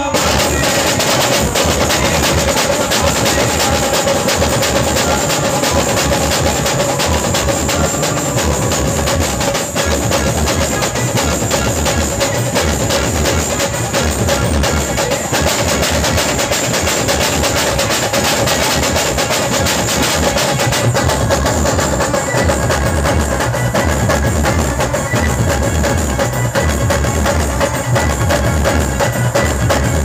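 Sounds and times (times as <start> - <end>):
deep bass drum beats: 0.0 - 30.0
live band playing loud music: 0.0 - 30.0.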